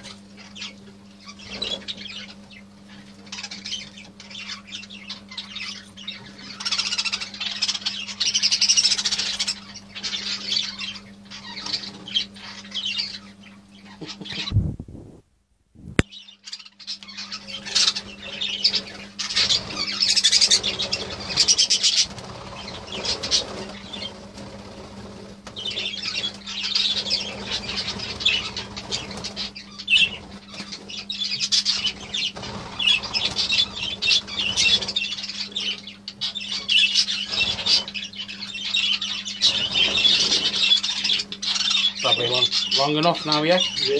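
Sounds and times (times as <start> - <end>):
budgerigars chattering and chirping: 0.0 - 14.7, 16.0 - 43.9
steady low hum: 0.0 - 43.9.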